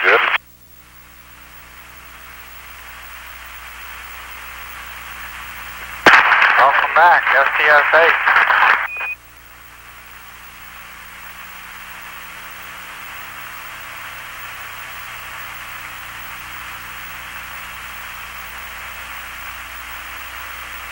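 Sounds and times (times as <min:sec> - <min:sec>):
low electrical hum: 0:00.0 - 0:20.9
radio static hiss: 0:00.0 - 0:20.9.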